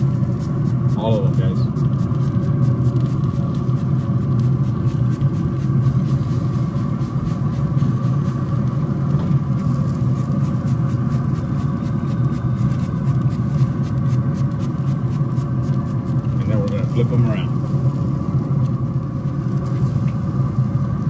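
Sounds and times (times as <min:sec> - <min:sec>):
fan humming with whine: 0:00.0 - 0:21.0.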